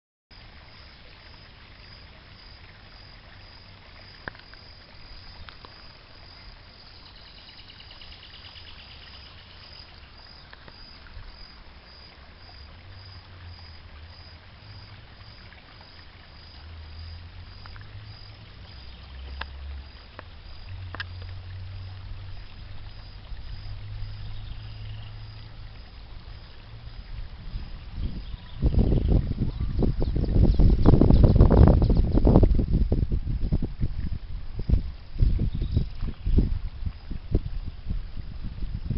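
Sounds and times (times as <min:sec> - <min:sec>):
pulsing insect-like chirp: 0:00.7 - 0:33.7, 0:34.6 - 0:37.8.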